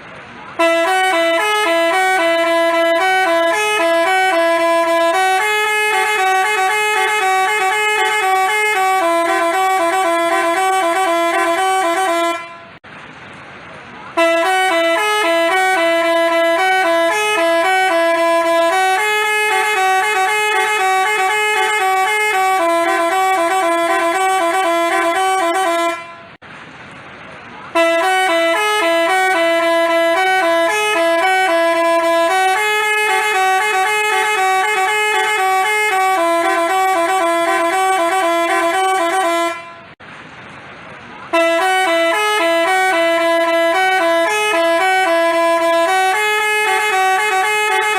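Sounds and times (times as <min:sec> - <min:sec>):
bus horn playing melody: 0:00.4 - 0:12.8, 0:14.1 - 0:26.4, 0:27.7 - 0:40.0, 0:41.3 - 0:47.9.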